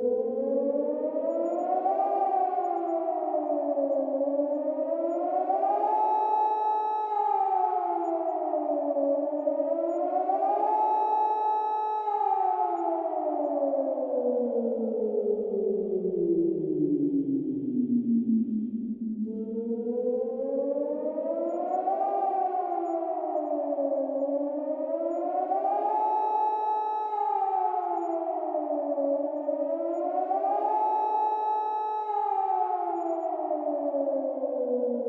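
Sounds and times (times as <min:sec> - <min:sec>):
two-tone warning siren wailing: 0:00.0 - 0:35.0.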